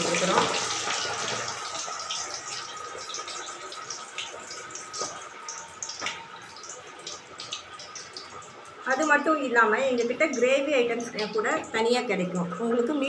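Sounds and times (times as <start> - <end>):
curry bubbling in a pot: 0.0 - 11.8.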